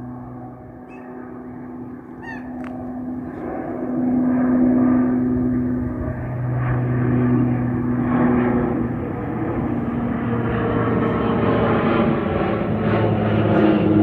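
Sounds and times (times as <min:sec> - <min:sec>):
humming tones: 0:00.0 - 0:14.0
propeller drone: 0:00.0 - 0:14.0.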